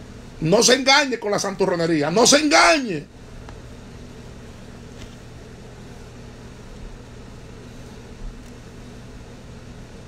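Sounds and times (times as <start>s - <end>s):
appliance hum with hiss: 0.0s - 10.0s.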